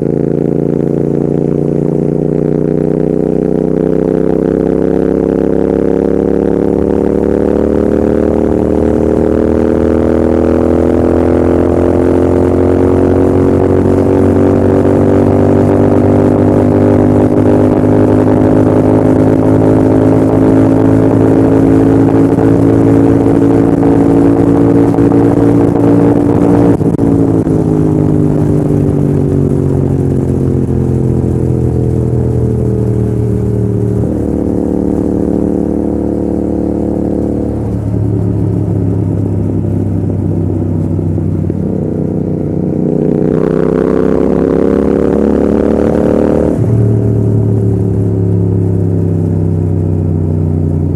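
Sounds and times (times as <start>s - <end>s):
motorcycle engine and exhaust: 0.0s - 50.9s
wind and road noise: 0.0s - 50.9s.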